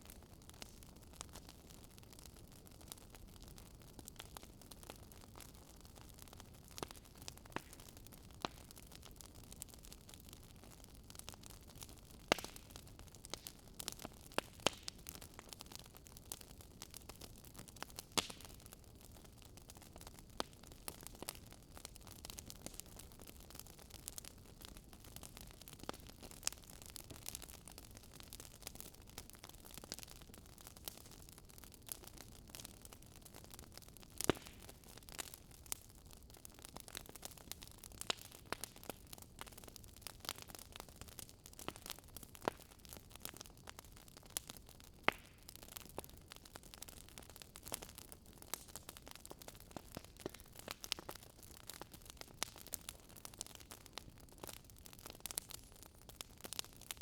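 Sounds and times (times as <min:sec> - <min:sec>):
wood fire popping and snapping: 0:00.0 - 0:57.0.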